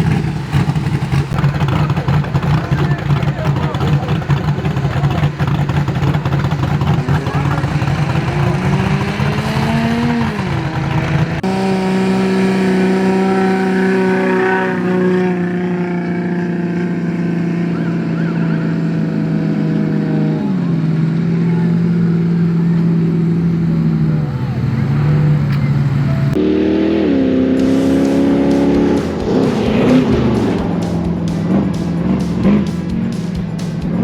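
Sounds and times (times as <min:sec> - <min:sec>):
vehicle engine under load: 0:00.0 - 0:34.0.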